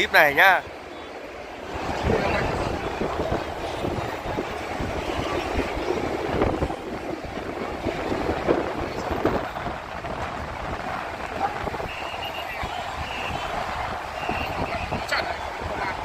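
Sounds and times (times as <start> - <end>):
road traffic: 0.0 - 16.0
wind buffeting microphone: 1.6 - 16.0.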